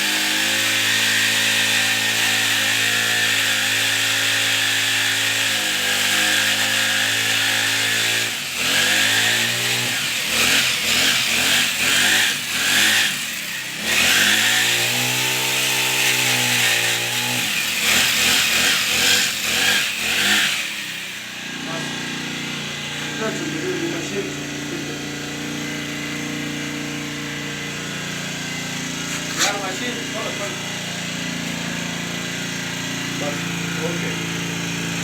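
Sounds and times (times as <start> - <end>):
brush cutter engine revving: 0.0 - 35.0.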